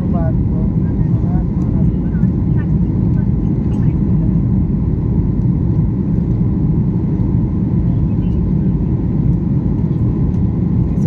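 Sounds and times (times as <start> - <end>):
passenger airplane rumble: 0.0 - 11.0.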